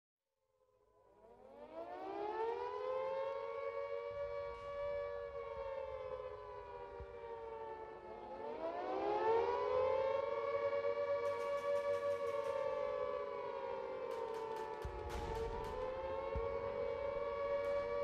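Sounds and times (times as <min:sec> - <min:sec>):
air-raid siren wailing: 0:01.1 - 0:18.0.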